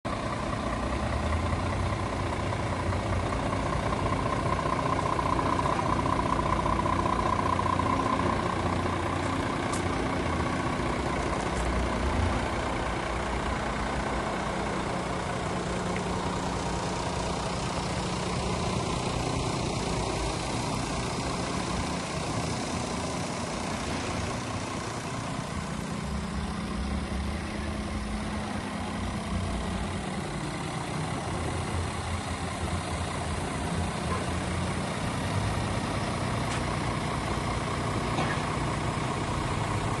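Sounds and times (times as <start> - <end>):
diesel truck engine idling: 0.0 - 40.0.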